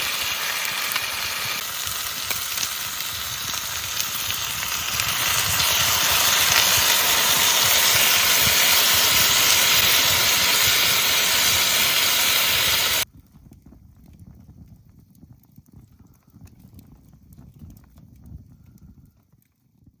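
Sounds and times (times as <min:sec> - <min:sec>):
food sizzling with pops: 0:00.0 - 0:19.3
faint crackles: 0:00.0 - 0:20.0.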